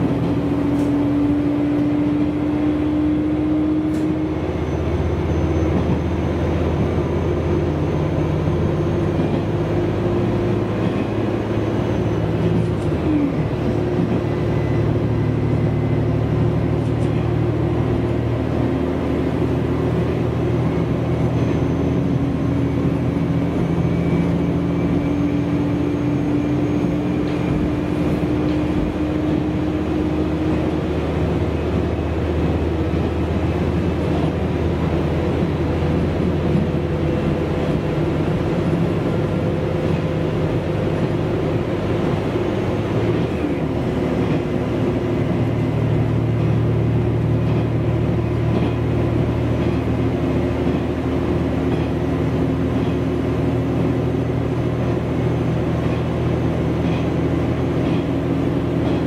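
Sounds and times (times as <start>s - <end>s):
diesel engine drone: 0.0s - 59.0s
wheels rumbling on rails: 0.0s - 59.0s.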